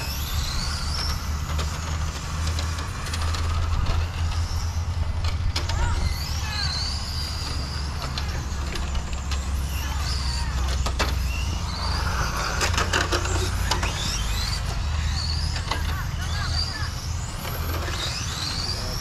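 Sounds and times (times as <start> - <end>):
electric toy car motor whining: 0.0 - 19.0.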